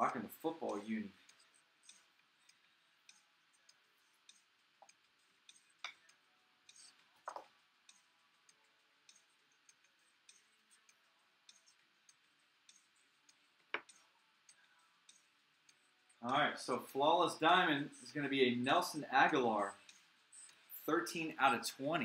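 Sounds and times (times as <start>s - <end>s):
faint small clicks and ticks: 0.0s - 16.4s, 17.2s - 22.0s.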